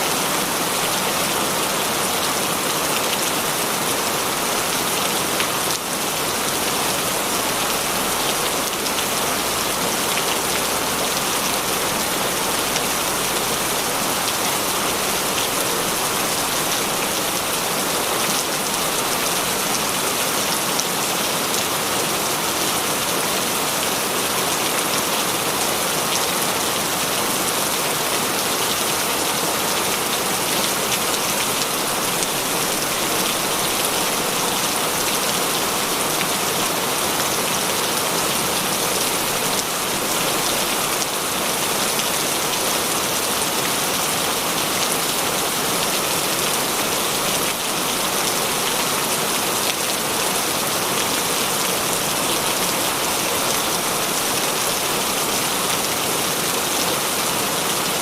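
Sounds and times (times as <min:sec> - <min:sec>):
heavy rain pattering: 0:00.1 - 0:58.0.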